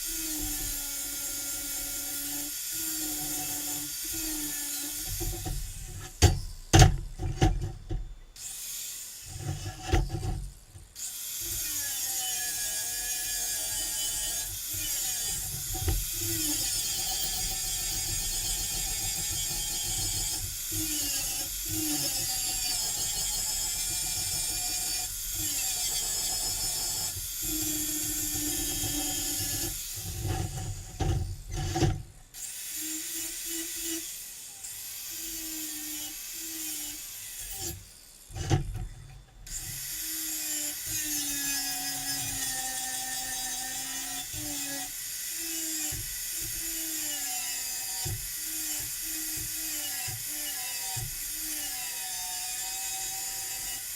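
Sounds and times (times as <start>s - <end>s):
angle grinder grinding metal: 0.0s - 53.9s.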